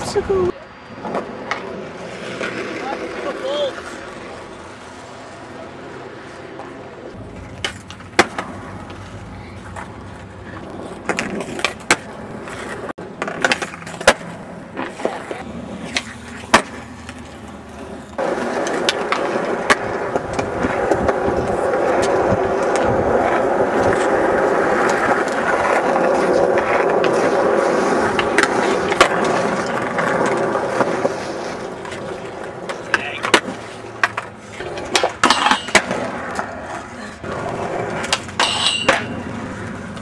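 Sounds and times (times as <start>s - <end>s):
skateboard wheels rolling on concrete: 0.0s - 40.0s
skateboard clacks: 6.5s - 40.0s.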